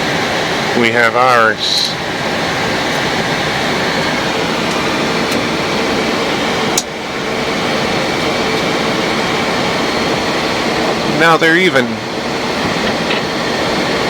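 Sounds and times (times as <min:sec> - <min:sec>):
air-conditioning airflow rushing: 0:00.0 - 0:14.0.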